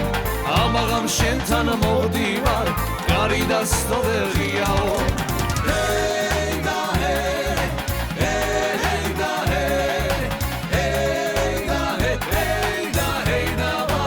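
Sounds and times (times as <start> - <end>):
song with heavy bass rhythm: 0.0 - 14.0.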